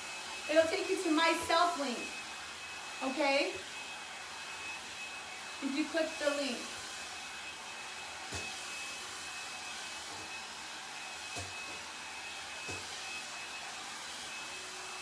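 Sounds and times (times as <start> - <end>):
hot-air brush blowing with whine: 0.0 - 15.0.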